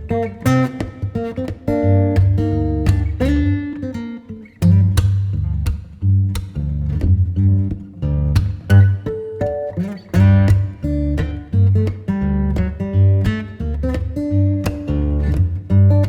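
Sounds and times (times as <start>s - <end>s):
plucked guitar notes: 0.0s - 16.0s.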